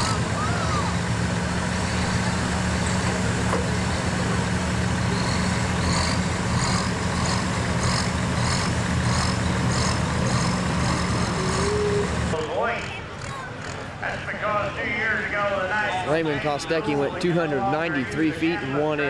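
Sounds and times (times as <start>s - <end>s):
tractor diesel engine running: 0.0s - 15.8s.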